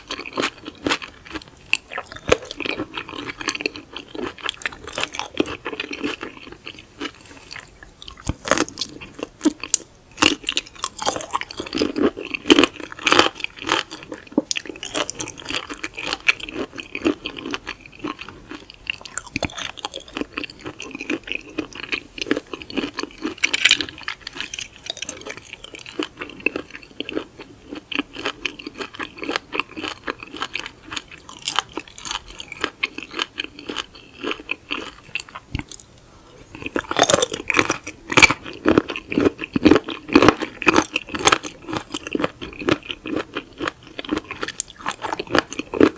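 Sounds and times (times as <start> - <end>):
close chewing and crunchy bites: 0.0 - 45.9.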